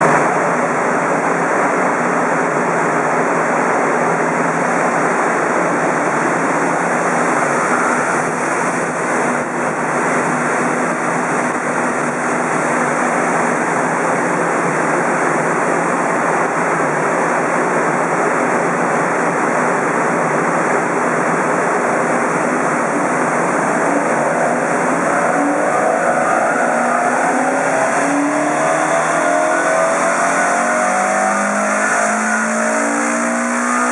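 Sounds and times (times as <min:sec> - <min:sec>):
car engine running on dyno: 0:00.0 - 0:33.9
loud rushing noise: 0:00.0 - 0:33.9.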